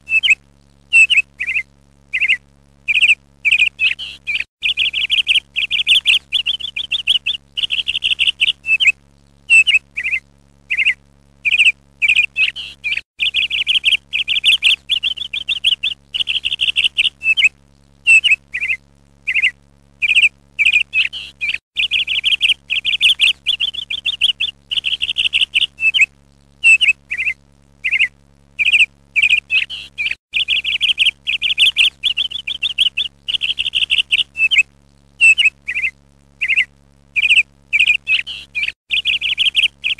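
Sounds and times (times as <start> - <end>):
songbird chirping and trilling: 0.1 - 17.5, 18.1 - 39.9.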